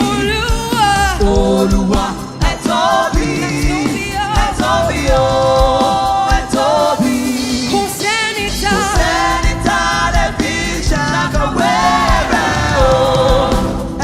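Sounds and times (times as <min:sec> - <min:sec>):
band with steady drum beat: 0:00.0 - 0:14.0
voices singing gospel: 0:00.0 - 0:14.0.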